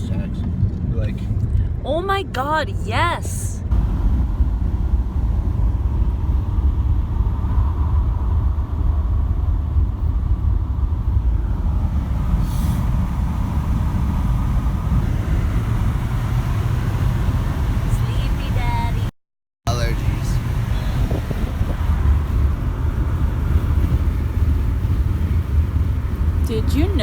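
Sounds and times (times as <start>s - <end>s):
car cabin road and engine rumble: 0.0s - 19.1s, 19.7s - 27.0s.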